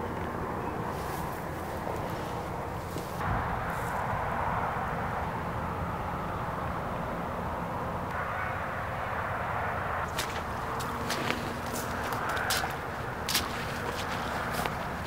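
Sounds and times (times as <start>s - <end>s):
distant engine hum: 0.0s - 15.0s.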